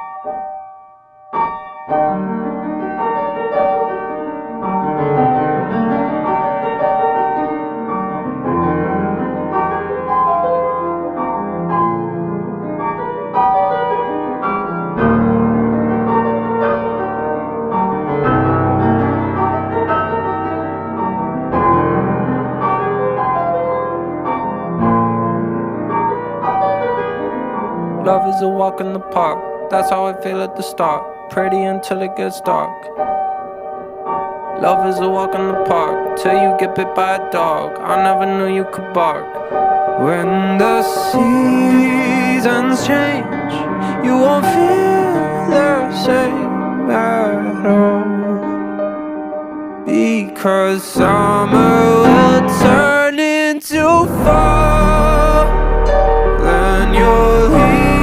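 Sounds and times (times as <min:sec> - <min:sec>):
piano chords: 0:00.0 - 0:58.0.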